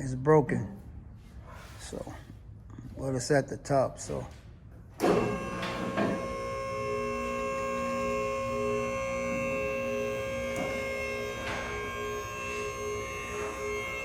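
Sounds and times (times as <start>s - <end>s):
electrical hum with held tones: 2.3s - 14.0s.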